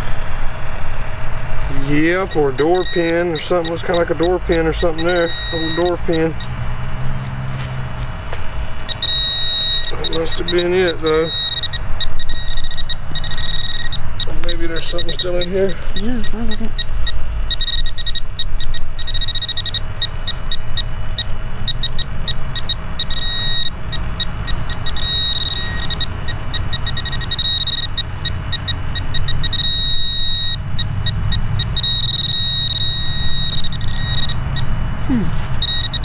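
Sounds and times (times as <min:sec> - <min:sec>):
metal detector pinpointer beeping: 0:01.7 - 0:06.6, 0:08.8 - 0:36.0.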